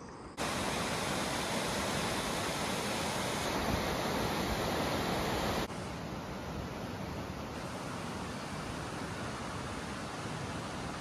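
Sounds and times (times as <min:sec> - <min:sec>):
stream rushing over rocks: 0:00.4 - 0:11.0.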